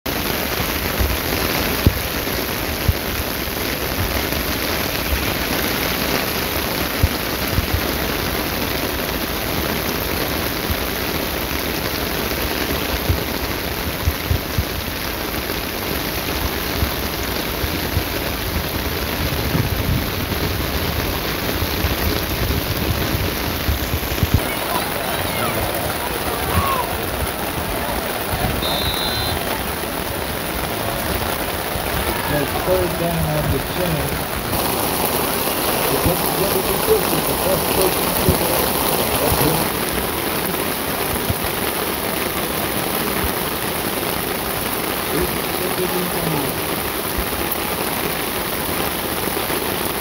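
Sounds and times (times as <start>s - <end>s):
heavy rain on asphalt and cars: 0.0s - 50.0s.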